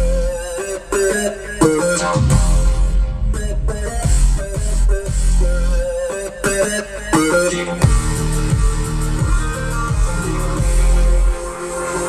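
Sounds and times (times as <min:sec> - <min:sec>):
heavy steady bass: 0:00.0 - 0:12.0.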